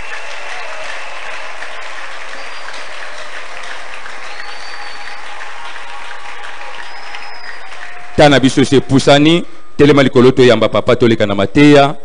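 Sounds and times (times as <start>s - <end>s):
congregation applauding: 0.0s - 9.7s.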